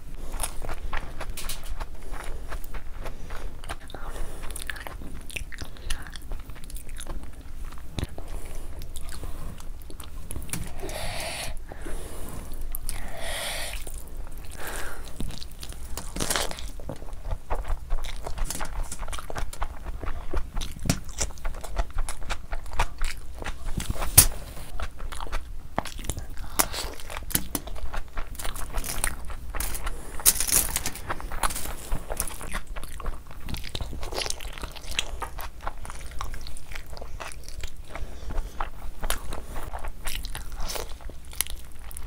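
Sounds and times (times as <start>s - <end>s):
close chewing with wet smacks: 0.0s - 10.8s, 13.7s - 42.0s.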